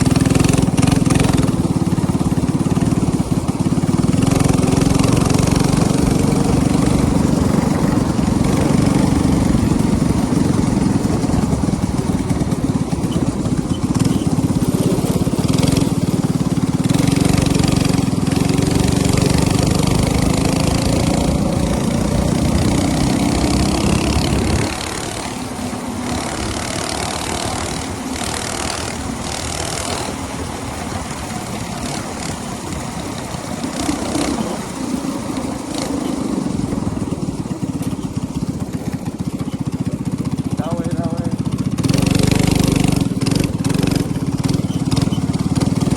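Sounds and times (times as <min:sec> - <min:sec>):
minibike engine running: 0:00.0 - 0:45.9.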